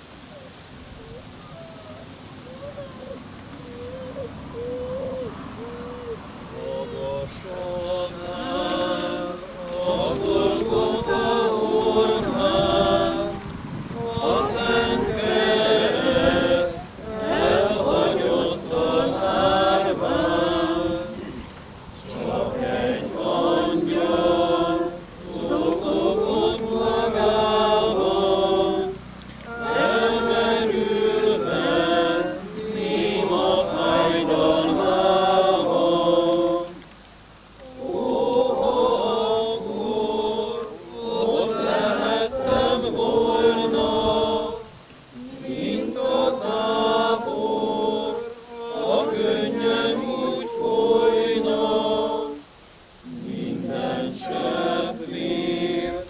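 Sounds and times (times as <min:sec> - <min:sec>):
group singing a hymn: 0:03.8 - 0:56.0.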